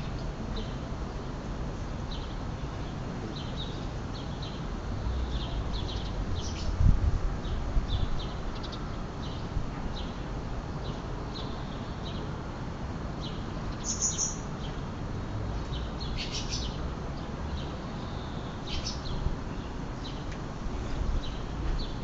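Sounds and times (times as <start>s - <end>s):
small birds chirping: 1.8s - 12.3s, 13.2s - 14.8s, 15.6s - 22.0s.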